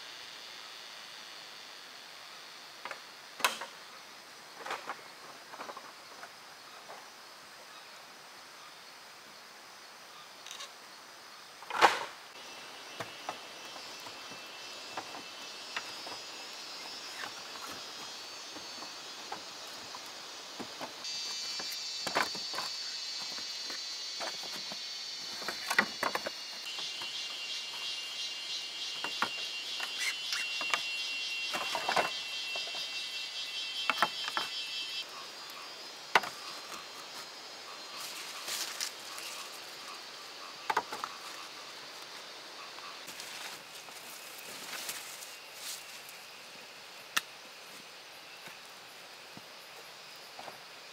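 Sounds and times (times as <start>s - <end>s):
insects trilling: 0.0s - 50.9s.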